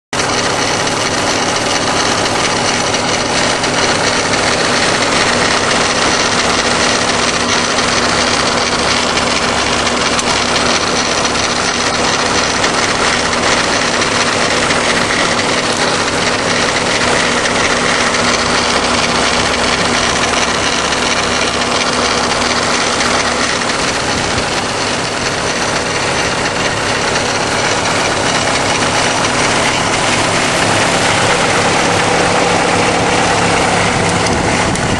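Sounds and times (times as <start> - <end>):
car engine running: 0.1 - 34.9
engine grinding noise: 0.1 - 34.9.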